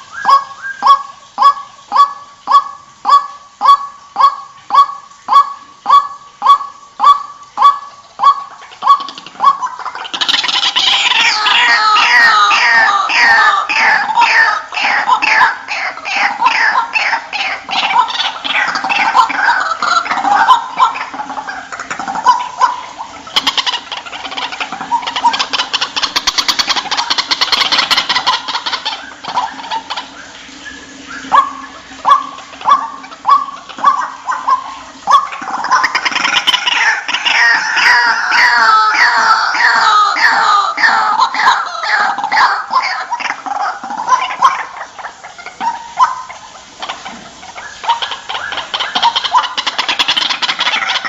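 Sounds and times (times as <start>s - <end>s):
waterhen calling: 0.0s - 51.0s.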